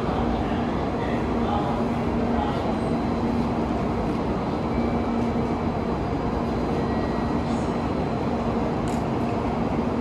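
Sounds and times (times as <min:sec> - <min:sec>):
train humming at platform: 0:00.0 - 0:10.0.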